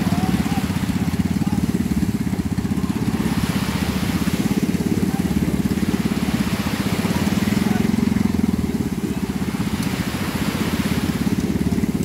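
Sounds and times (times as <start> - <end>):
small boat engine chugging: 0.0 - 12.0.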